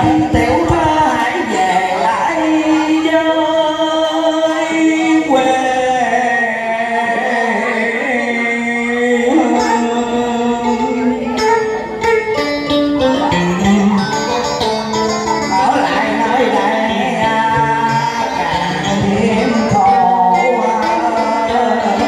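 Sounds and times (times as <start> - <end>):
slow song: 0.0 - 22.0.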